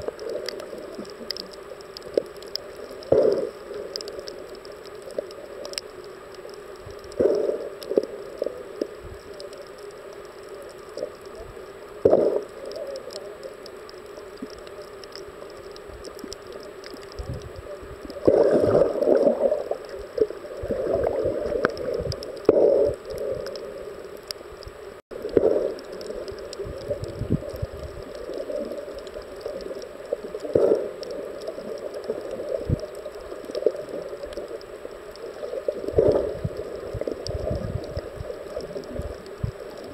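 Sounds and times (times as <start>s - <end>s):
muffled underwater water hiss: 0.0s - 39.9s
water surges: 0.0s - 39.9s.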